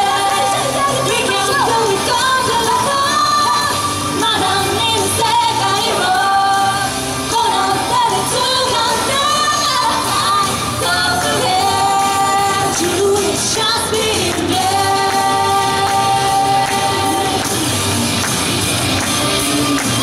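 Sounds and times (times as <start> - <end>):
female vocal group singing: 0.0 - 17.8
pop backing music: 0.0 - 20.0.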